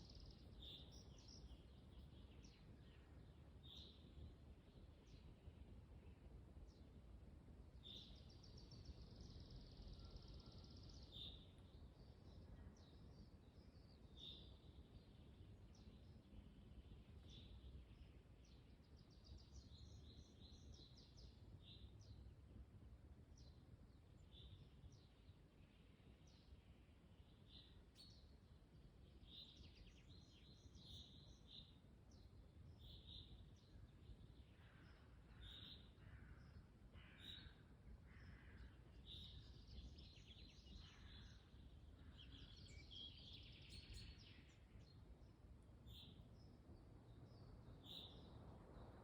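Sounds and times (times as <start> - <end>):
small songbirds singing: 0.0 - 7.0, 7.7 - 22.4, 23.2 - 49.0
faint low wind rumble: 0.0 - 49.0.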